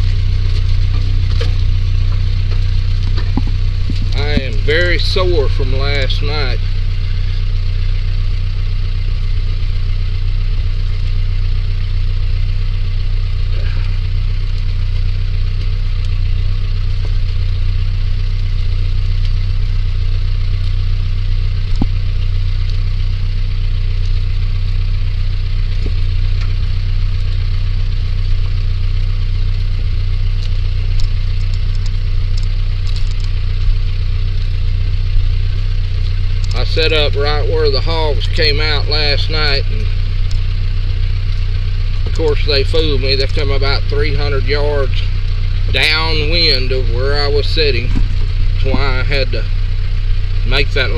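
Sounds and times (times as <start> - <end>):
vehicle engine droning: 0.0 - 50.9.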